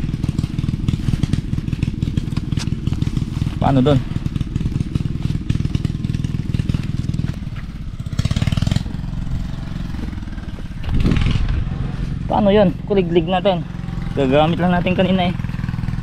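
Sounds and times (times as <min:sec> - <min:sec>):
tractor engine chugging: 0:00.0 - 0:16.0.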